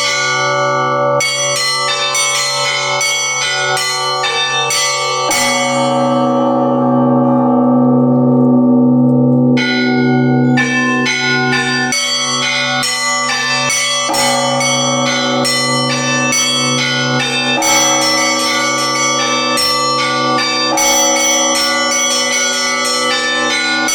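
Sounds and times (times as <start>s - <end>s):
large bell humming: 0.0s - 23.9s.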